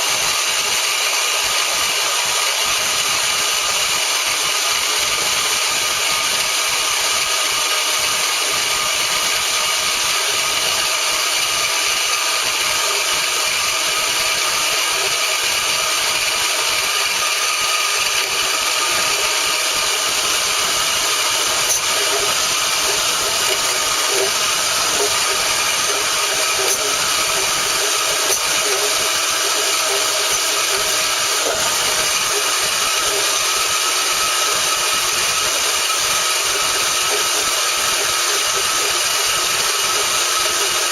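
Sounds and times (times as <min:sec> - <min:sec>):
band saw cutting metal: 0:00.0 - 0:40.9.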